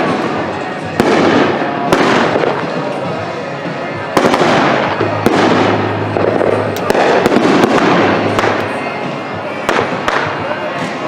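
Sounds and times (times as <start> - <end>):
fireworks crackling: 0.0 - 11.0
fireworks popping and banging: 0.0 - 11.0.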